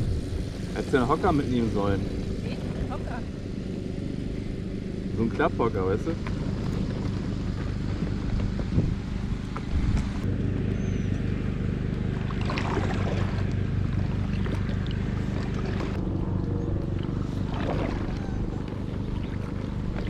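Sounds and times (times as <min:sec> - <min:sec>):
small motor humming: 0:00.7 - 0:20.0.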